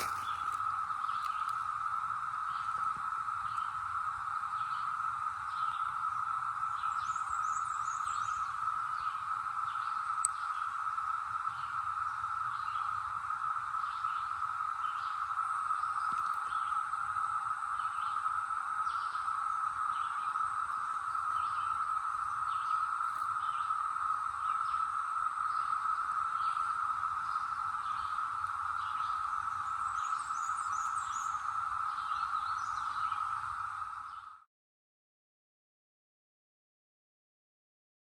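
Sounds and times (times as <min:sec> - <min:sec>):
cicada chorus drone: 0:00.0 - 0:34.5.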